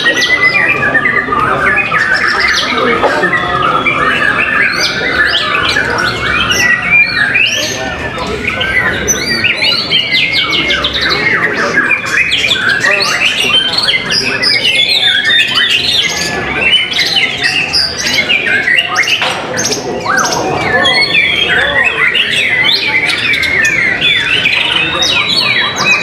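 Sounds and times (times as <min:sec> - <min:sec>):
other songbirds singing: 0:00.0 - 0:26.0.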